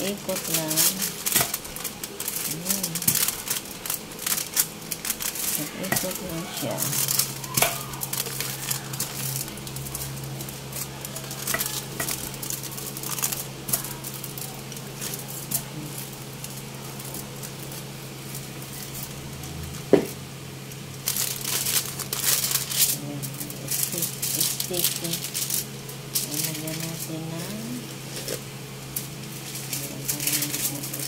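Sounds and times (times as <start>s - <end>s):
foil crinkling: 0.0s - 31.0s
steady low hum: 0.0s - 31.0s.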